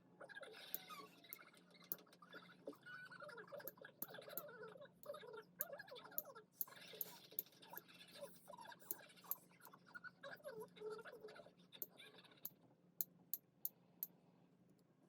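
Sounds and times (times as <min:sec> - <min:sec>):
faint murmur of speech: 0:00.1 - 0:12.5.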